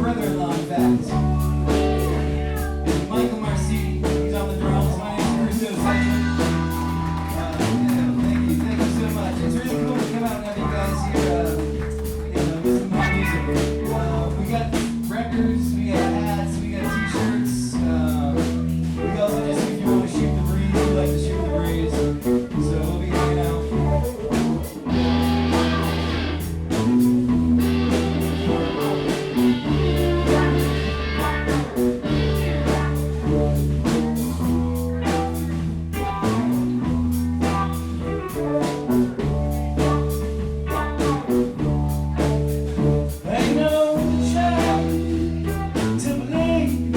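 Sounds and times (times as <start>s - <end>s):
bass guitar long notes: 0.0s - 46.9s
drum kit beat: 0.0s - 46.9s
guitars: 0.0s - 46.9s.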